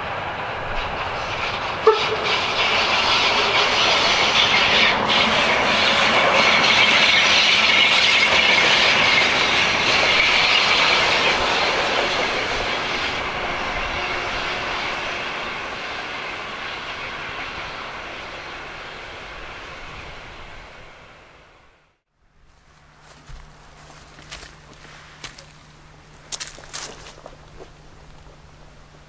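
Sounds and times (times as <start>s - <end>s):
train coaches rolling on track: 0.0s - 21.8s, 22.6s - 29.0s.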